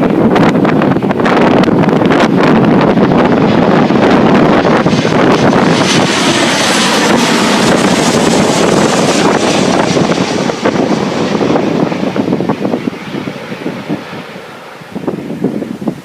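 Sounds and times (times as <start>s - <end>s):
jet airliner passing: 0.0s - 16.0s
wind buffeting microphone: 0.0s - 16.0s.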